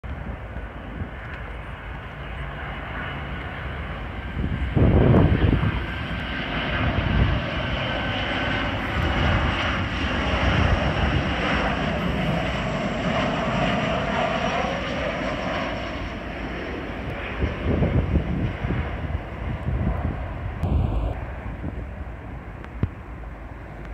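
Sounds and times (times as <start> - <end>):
jet engine whine: 0.0 - 23.9
jet engines on approach: 0.0 - 23.9.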